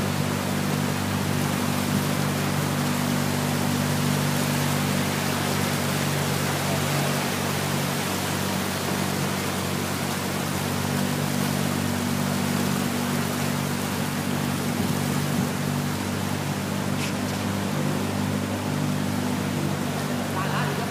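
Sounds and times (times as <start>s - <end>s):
boat rushing through water: 0.0s - 20.9s
motorboat engine running: 0.0s - 20.9s.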